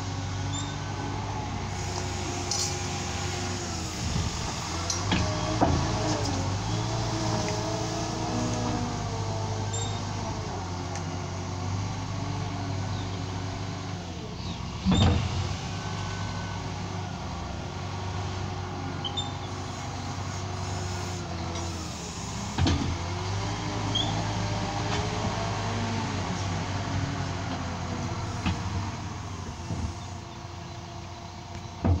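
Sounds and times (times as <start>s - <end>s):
wheel loader diesel engine: 0.0s - 32.0s.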